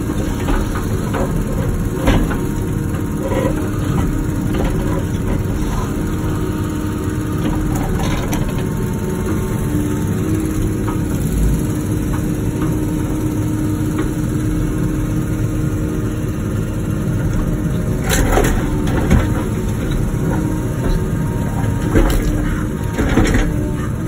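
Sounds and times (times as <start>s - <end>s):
excavator diesel engine and hydraulics: 0.0s - 24.0s.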